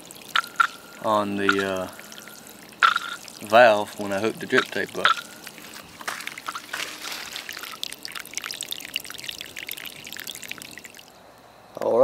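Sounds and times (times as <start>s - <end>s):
water spraying onto soil: 0.0s - 11.1s.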